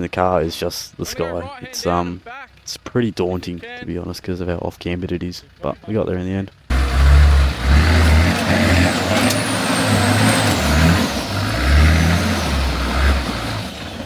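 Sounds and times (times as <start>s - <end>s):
off-road engine rumbling under load: 0.0s - 14.0s.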